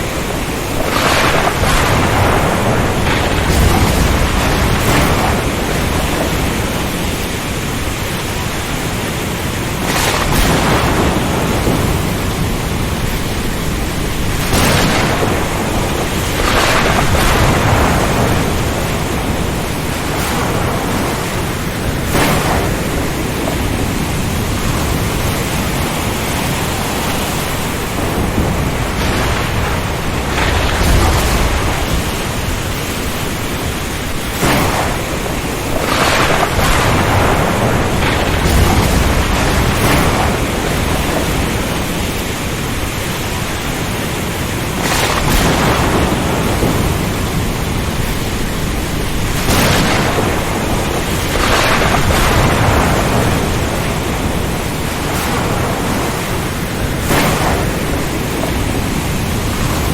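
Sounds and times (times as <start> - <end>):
strong wind and rain: 0.0 - 59.9
waves surging: 0.0 - 59.9.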